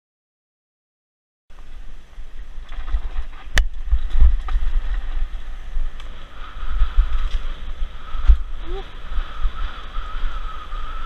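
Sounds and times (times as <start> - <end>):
bike rattling: 1.5 - 11.0
wind buffeting microphone: 1.5 - 11.0.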